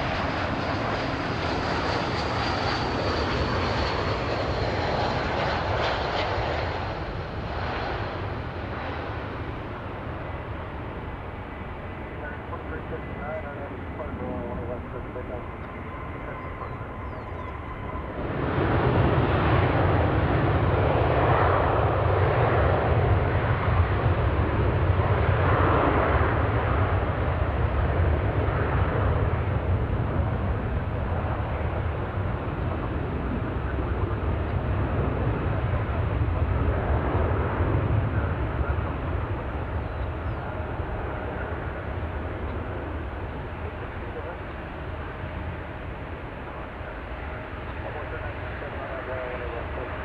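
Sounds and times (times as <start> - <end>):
jet airliner engines roaring: 0.0 - 50.0.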